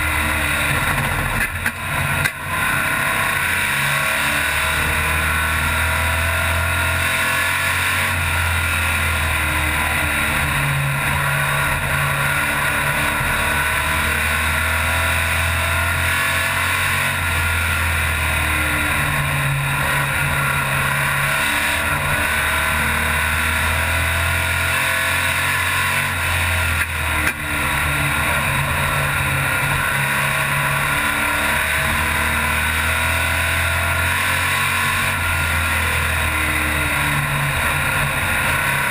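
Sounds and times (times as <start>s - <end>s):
racing car engine: 0.0s - 38.9s.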